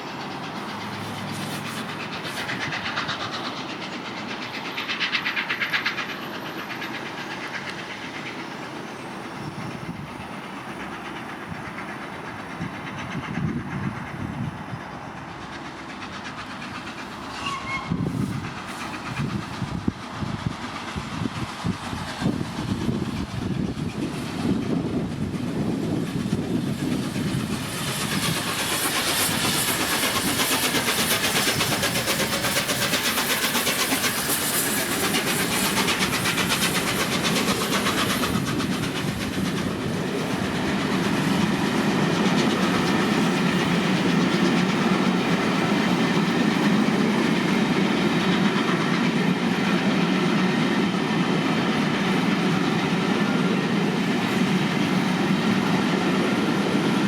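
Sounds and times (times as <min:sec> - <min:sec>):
train rumble: 0:00.0 - 0:57.0
train wheels clattering: 0:00.0 - 0:57.0.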